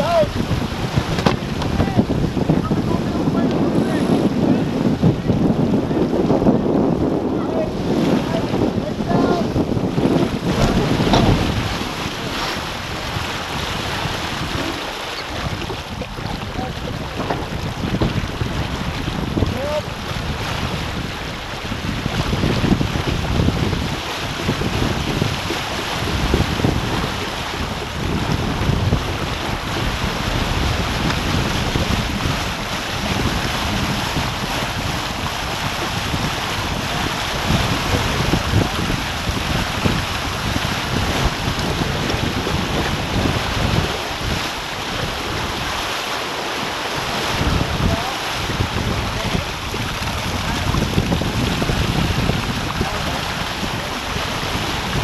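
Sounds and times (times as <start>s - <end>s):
water rushing along boat hull: 0.0s - 55.0s
wind buffeting microphone: 0.0s - 55.0s.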